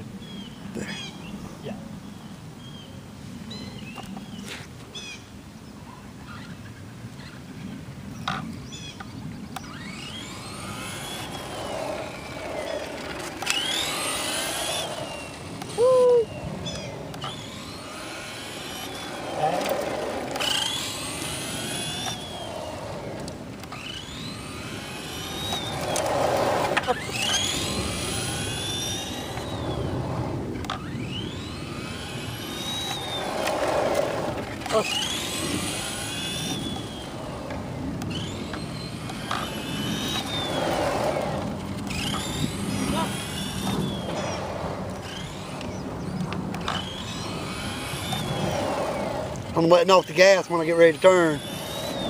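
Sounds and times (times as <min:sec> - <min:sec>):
rc truck electric motor whining: 0:09.6 - 0:52.0.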